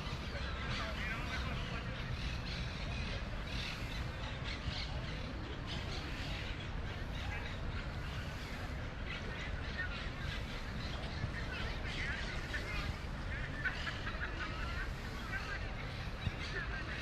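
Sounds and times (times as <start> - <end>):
murmur of distant voices: 0.0 - 17.0.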